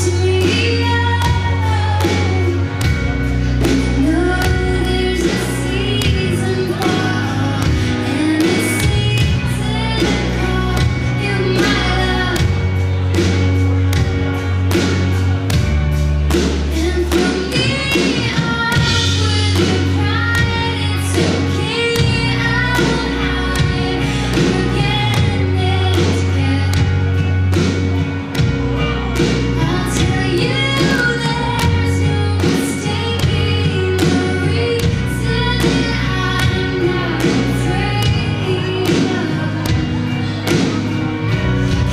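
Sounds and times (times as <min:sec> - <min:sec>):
woman singing: 0:00.0 - 0:13.1, 0:16.6 - 0:27.4, 0:29.1 - 0:41.9
bass guitar: 0:00.0 - 0:41.9
electric guitars: 0:00.0 - 0:41.9.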